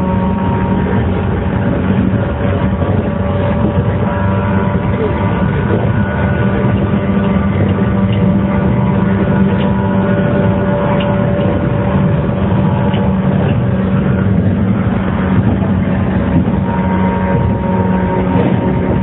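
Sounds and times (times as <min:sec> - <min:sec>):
electric train motor hum: 0:00.0 - 0:19.0
wheels rumbling on rails: 0:00.0 - 0:19.0.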